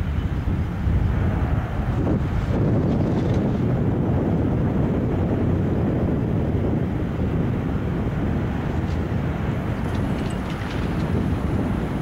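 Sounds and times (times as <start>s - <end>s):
aircraft engine noise: 0.0s - 12.0s
wind buffeting microphone: 0.0s - 12.0s.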